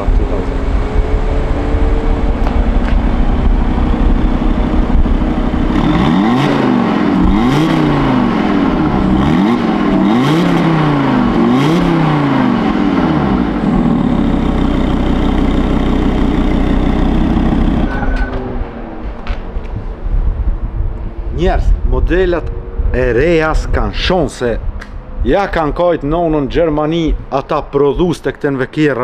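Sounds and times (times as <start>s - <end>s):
car engine idling and revving: 0.0s - 23.4s.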